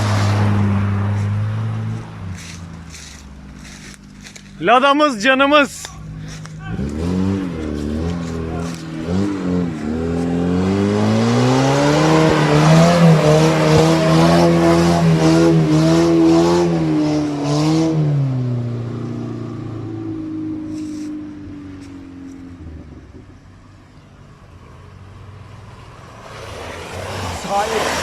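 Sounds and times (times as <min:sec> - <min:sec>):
off-road vehicle engine revving: 0:00.0 - 0:23.5, 0:24.4 - 0:28.0.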